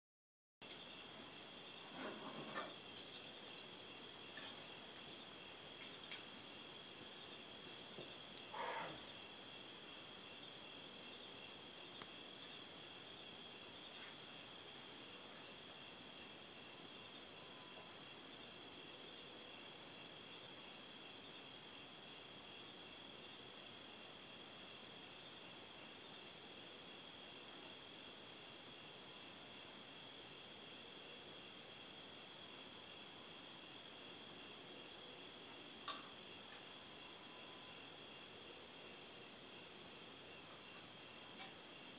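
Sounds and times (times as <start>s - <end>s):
crickets chirring: 0.6s - 41.9s.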